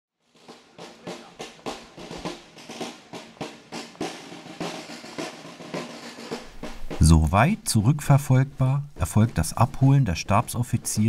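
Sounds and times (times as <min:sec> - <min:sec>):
snare drums marching beat: 0:00.3 - 0:11.0.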